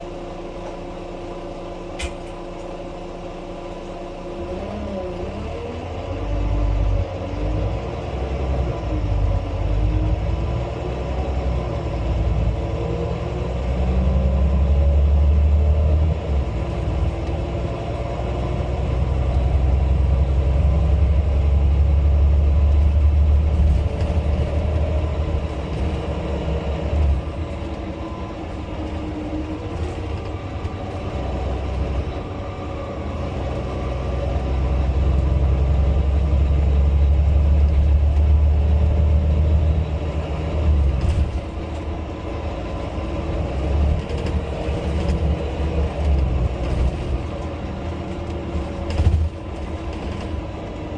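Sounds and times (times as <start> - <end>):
bus engine rumble: 0.0 - 50.9.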